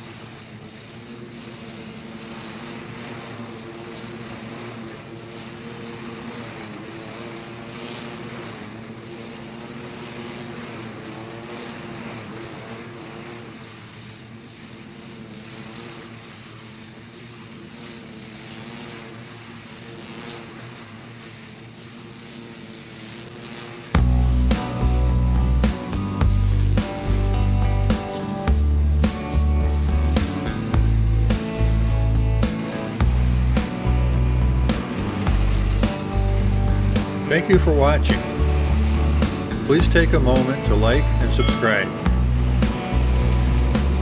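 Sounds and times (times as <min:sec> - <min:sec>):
lawn tractor engine mowing: 0:00.0 - 0:44.0.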